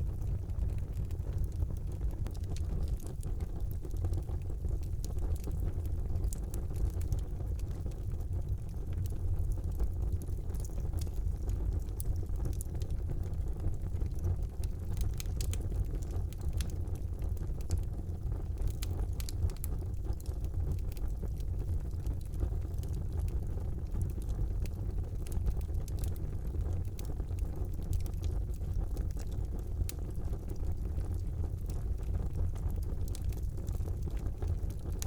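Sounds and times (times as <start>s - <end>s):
fire crackles and pops: 0.0s - 35.0s
fire rumbling in fireplace: 0.0s - 35.0s.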